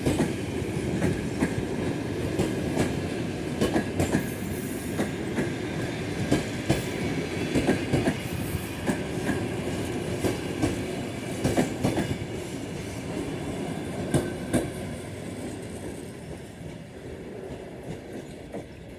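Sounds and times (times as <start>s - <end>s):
train wheels clicking on rail joints: 0.0s - 13.3s, 13.9s - 18.9s
train rumbling: 0.0s - 18.9s.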